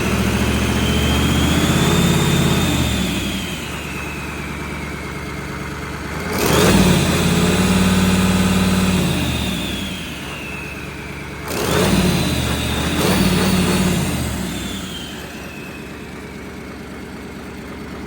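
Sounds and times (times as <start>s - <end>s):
diesel engine revving: 0.0s - 18.0s
high engine whine: 0.0s - 18.0s.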